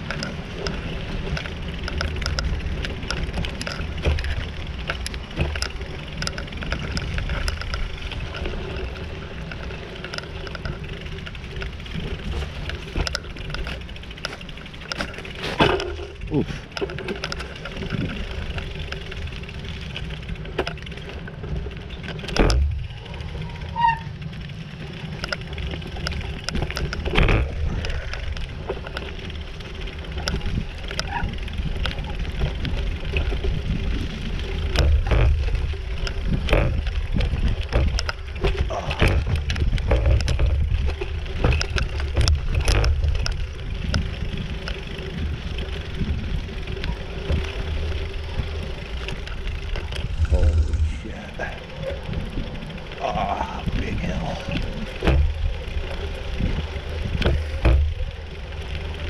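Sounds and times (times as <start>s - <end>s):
bike knocks and rattles: 0.0s - 53.0s, 53.9s - 59.0s
bicycle tyres rumbling on dirt: 0.0s - 59.0s.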